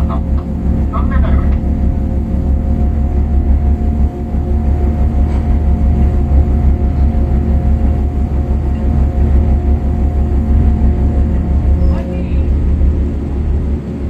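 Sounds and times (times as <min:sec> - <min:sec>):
ship machinery droning: 0:00.0 - 0:14.0
steady humming tones: 0:00.0 - 0:14.0.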